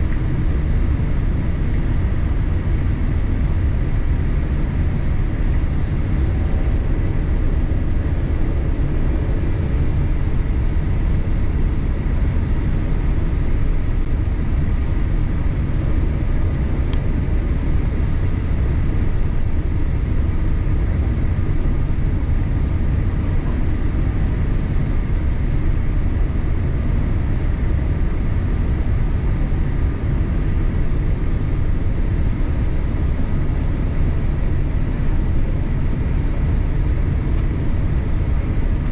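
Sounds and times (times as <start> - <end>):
airliner engine and airflow rumble: 0.0 - 38.9.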